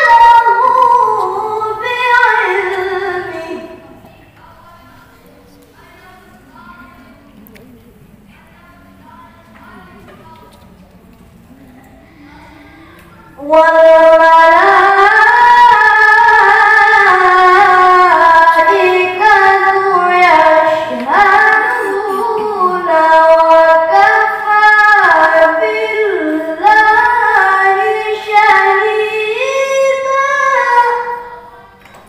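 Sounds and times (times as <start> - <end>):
child reciting melodically: 0.0 - 32.0.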